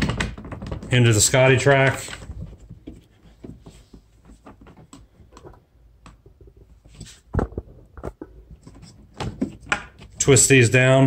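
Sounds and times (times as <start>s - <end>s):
plastic clicks and knocks: 0.0s - 10.2s.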